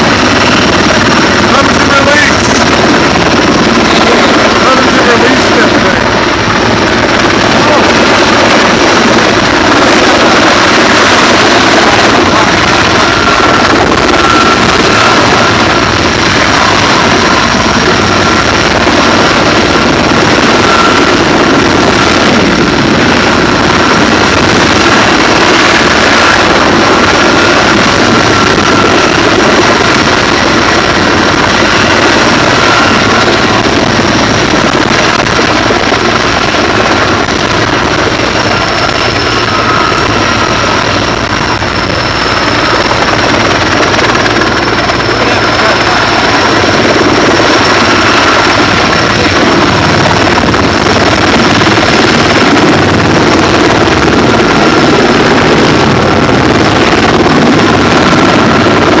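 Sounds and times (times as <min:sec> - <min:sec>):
helicopter hovering: 0:00.0 - 0:59.0.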